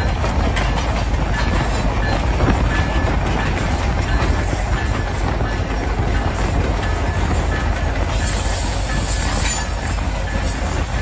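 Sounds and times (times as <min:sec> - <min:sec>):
locomotives rumbling past: 0:00.0 - 0:11.0.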